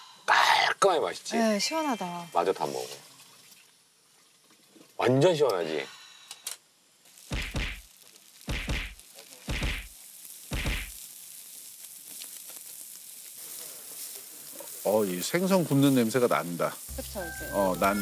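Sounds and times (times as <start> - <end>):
fish sizzling on grill: 0.0 - 18.0.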